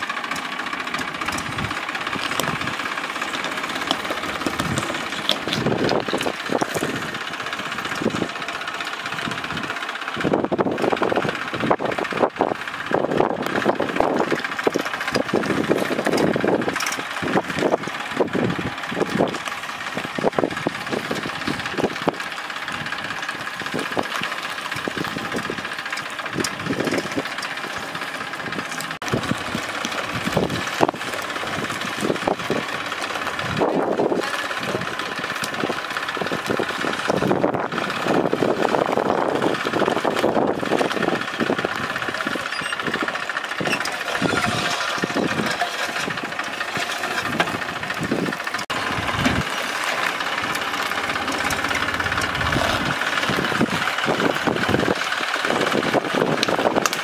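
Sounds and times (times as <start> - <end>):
knocks and rattles: 0.0 - 57.0
tractor diesel engine running: 0.0 - 57.0.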